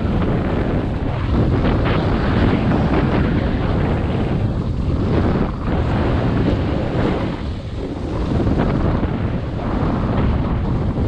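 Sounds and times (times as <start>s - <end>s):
snowboard scraping over snow: 0.0s - 11.0s
wind buffeting microphone: 0.0s - 11.0s.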